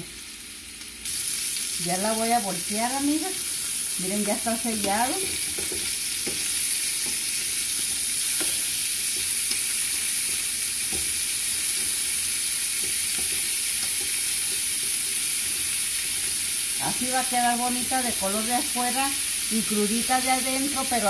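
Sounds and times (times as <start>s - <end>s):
chicken sizzling in a frying pan: 0.0s - 21.0s.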